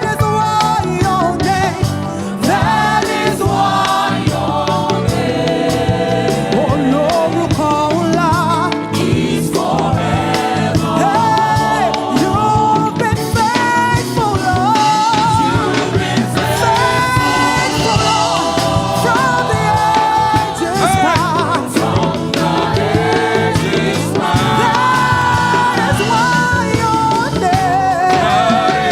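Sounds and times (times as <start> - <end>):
band with drums and bass: 0.0 - 28.9
person singing: 0.0 - 28.9.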